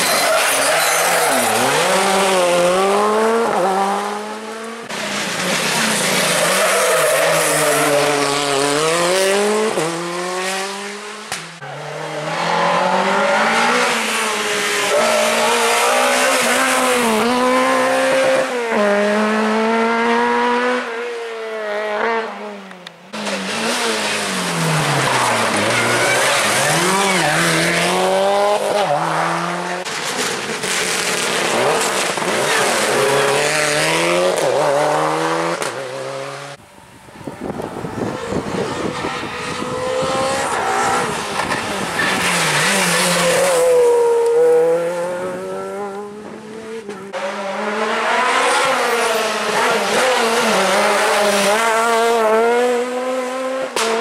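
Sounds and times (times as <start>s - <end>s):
rally car engines revving past: 0.0s - 36.6s, 37.4s - 54.0s.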